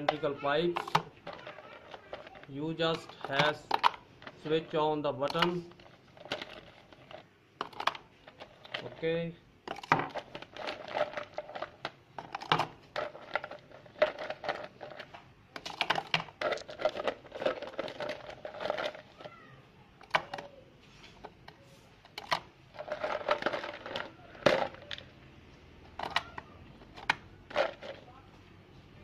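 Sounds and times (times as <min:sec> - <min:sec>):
objects clicking and crinkling: 0:00.0 - 0:28.8.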